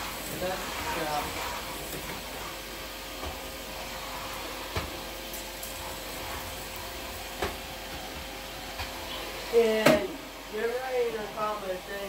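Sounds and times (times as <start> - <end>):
shop vacuum whining: 0.0 - 12.0.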